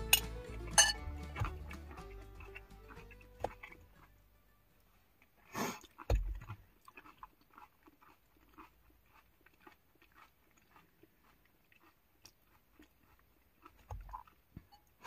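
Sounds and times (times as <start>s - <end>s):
person chewing crunchy food: 0.0s - 4.2s, 5.2s - 15.0s.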